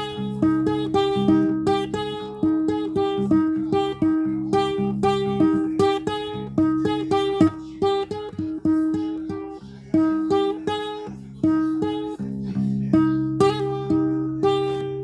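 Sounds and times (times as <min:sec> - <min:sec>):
acoustic guitar melody: 0:00.0 - 0:15.0.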